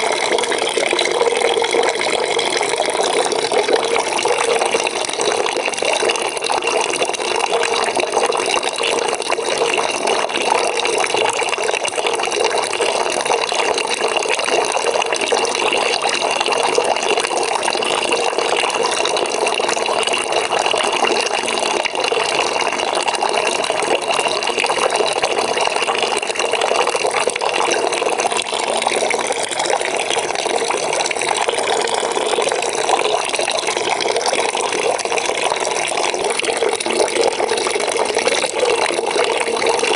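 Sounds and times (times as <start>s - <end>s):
water running into a bucket: 0.0s - 39.9s.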